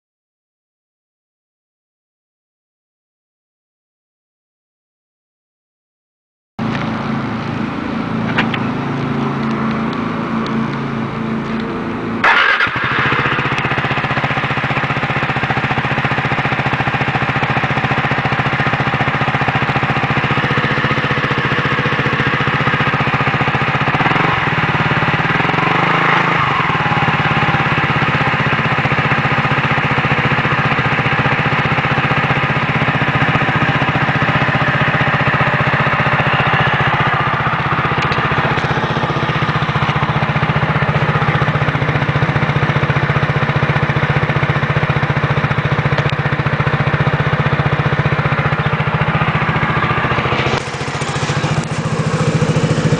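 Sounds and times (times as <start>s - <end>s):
scooter engine idling: 6.6s - 52.9s.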